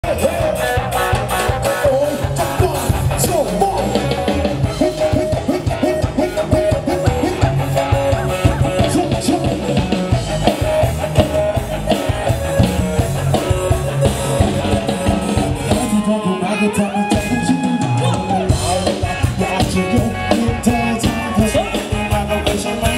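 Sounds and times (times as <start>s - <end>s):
person singing: 0.0s - 10.0s, 12.0s - 22.9s
drum kit beat: 0.0s - 22.9s
electric guitars: 0.0s - 22.9s.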